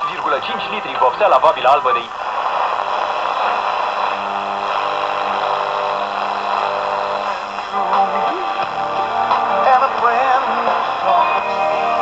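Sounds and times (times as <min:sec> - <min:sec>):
faint steady tones: 0:00.0 - 0:12.0
radio static hiss: 0:00.0 - 0:12.0.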